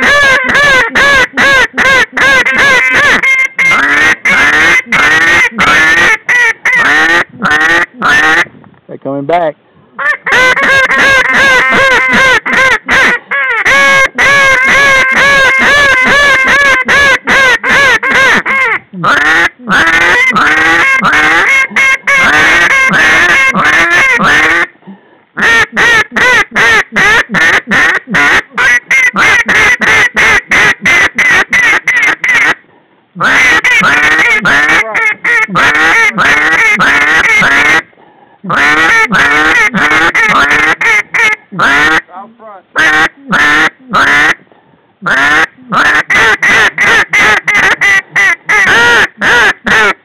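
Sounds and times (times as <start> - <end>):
duck call quacking: 0.0 - 8.5, 10.0 - 24.7, 25.4 - 32.6, 33.2 - 37.9, 38.5 - 42.1, 42.8 - 44.4, 45.0 - 50.0.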